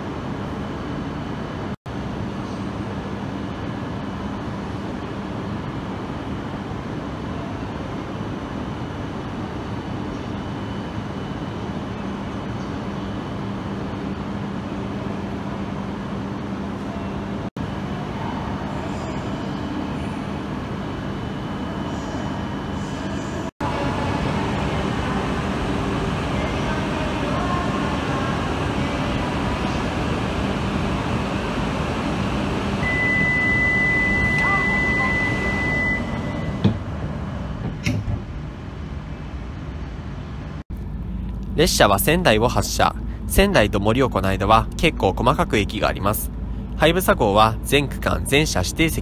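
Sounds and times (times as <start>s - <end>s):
standing train humming and whirring: 0.0s - 49.0s.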